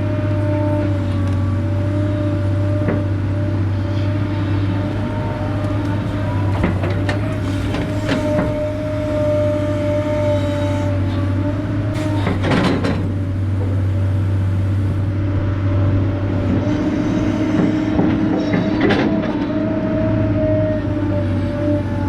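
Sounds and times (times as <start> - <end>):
excavator diesel engine running: 0.0 - 22.0
hydraulic whine: 0.0 - 22.0.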